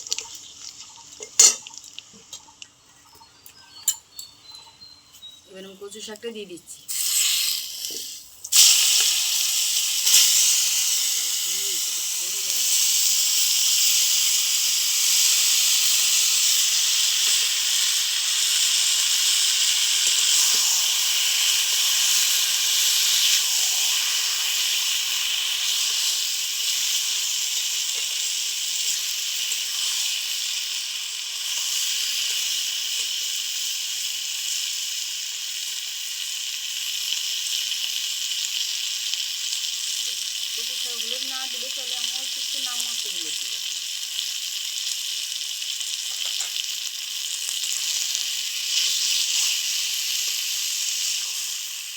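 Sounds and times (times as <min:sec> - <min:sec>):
greens sizzling in hot oil: 0:00.0 - 0:51.9.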